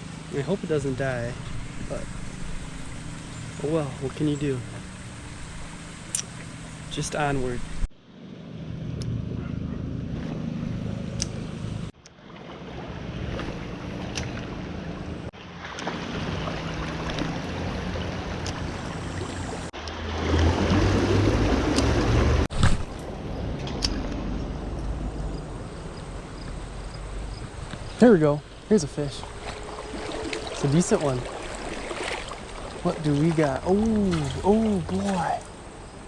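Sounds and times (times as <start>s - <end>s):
creek water running: 0.0s - 7.9s, 11.2s - 23.0s, 25.6s - 36.0s.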